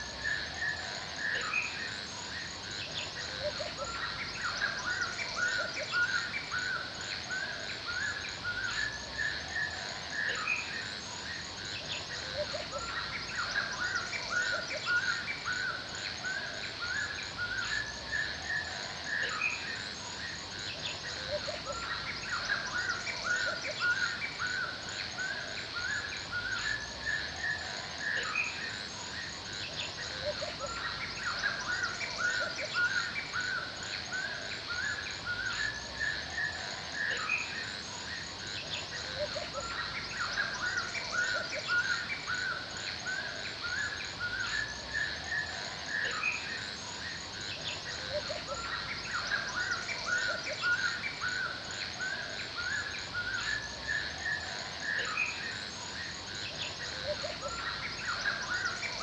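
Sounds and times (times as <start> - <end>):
birds chirping: 0.0 - 59.0
steady high-pitched hiss: 0.0 - 59.0.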